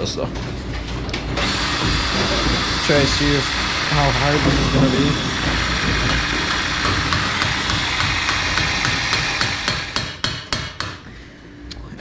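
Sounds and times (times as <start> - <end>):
machinery running: 0.0 - 10.2.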